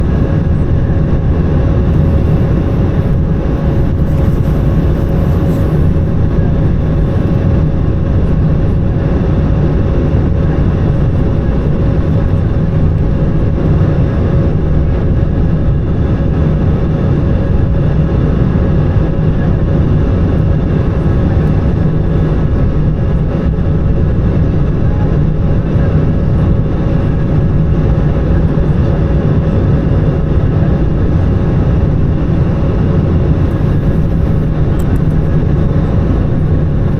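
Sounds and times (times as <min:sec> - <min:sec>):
jet engines droning: 0:00.0 - 0:36.9
rush of air in aircraft cabin: 0:00.0 - 0:36.9
steady hum: 0:00.0 - 0:36.9.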